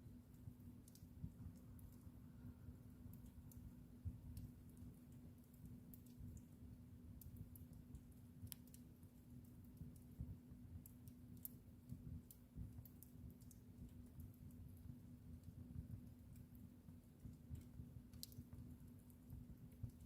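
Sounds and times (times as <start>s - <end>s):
low rumble of burning: 0.0s - 20.0s
wood fire crackling: 0.0s - 20.0s
fire pops and snaps: 0.3s - 2.1s, 3.0s - 20.0s.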